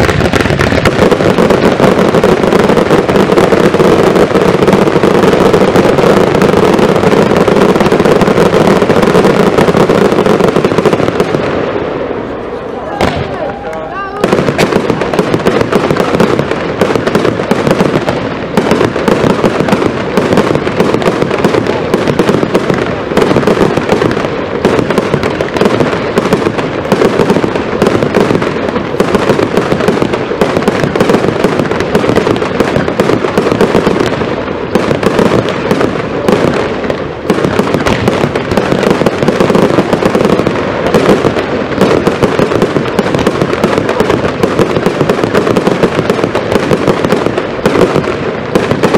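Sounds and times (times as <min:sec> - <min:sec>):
fireworks rapid bangs: 0:00.0 - 0:48.9.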